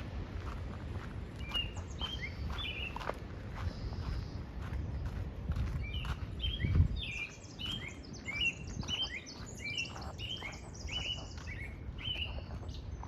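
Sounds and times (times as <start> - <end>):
footsteps on a path: 0.0 - 13.0
small birds chirping: 0.6 - 13.0.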